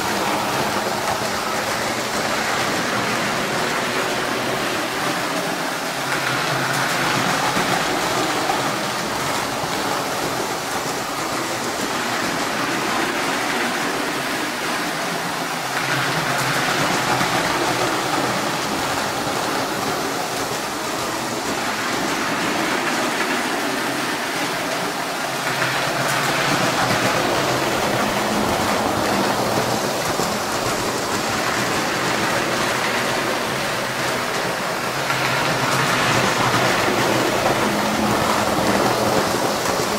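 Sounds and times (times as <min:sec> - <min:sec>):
toy train rumbling whir: 0:00.0 - 0:39.9.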